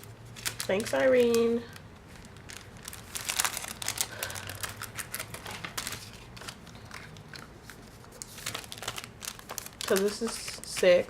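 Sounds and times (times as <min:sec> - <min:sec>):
packaging clicks and rustles: 0:00.3 - 0:11.0.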